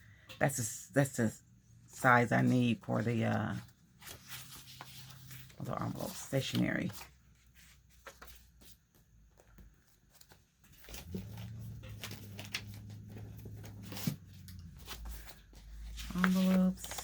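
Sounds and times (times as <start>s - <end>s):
paper rustling and shuffling: 2.0s - 17.0s.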